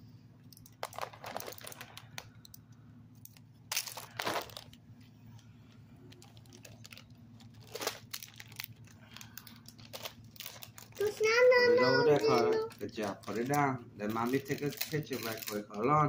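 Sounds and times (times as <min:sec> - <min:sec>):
faint low hum: 0:00.0 - 0:16.0
plastic wrappers crinkling: 0:00.5 - 0:02.6, 0:03.2 - 0:04.8, 0:05.9 - 0:16.0.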